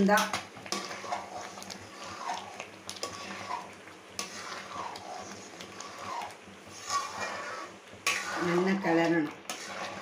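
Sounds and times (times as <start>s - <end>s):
metal ladle scraping pan: 0.1s - 10.0s.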